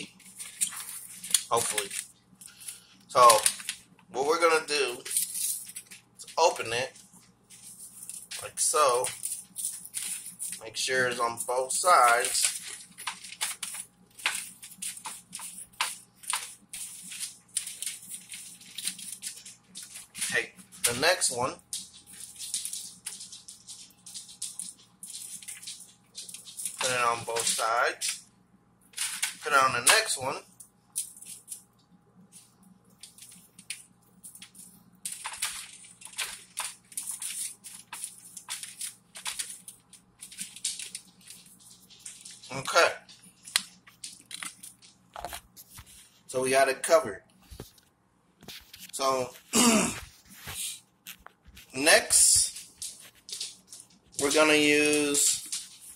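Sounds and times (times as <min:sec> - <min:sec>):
seasoning packet rustling: 0:00.0 - 0:28.2, 0:28.9 - 0:46.3, 0:50.1 - 0:55.9
aluminium foil crinkling: 0:00.0 - 0:46.8, 0:47.4 - 0:55.9.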